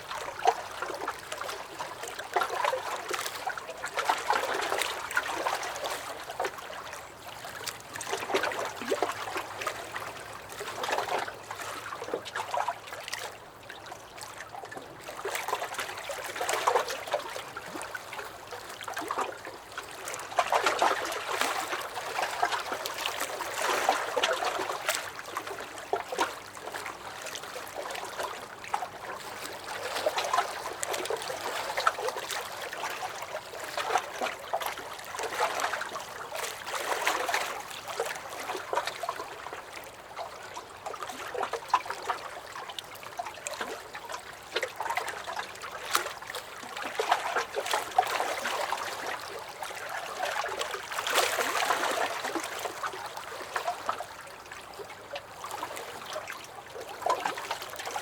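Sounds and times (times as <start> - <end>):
waves lapping against a dock: 0.0 - 58.0.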